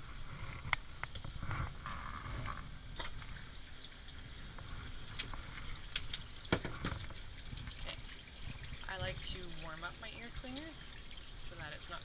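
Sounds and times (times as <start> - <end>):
water running in a tub: 0.0 - 12.0.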